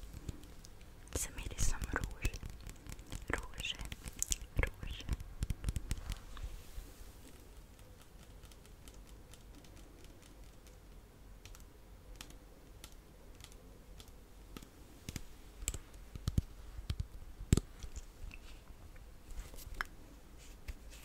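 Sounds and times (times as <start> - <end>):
soft clicks and taps: 0.0 - 6.5, 7.3 - 20.0.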